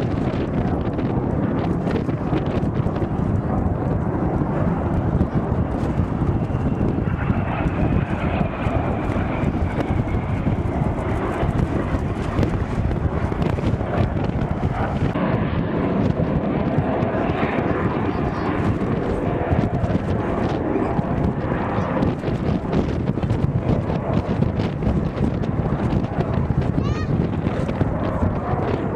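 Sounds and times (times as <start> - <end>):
aircraft engine drone: 0.0 - 28.9.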